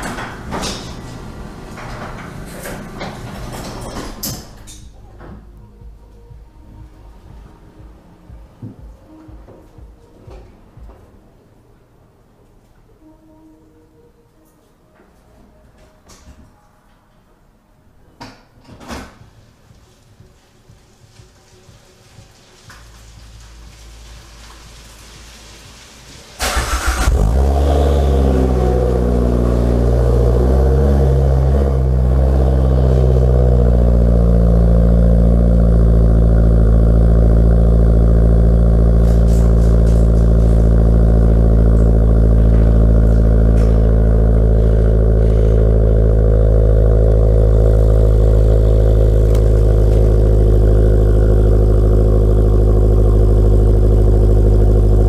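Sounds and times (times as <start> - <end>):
car engine starting and idling: 0.0 - 12.3, 19.0 - 55.0.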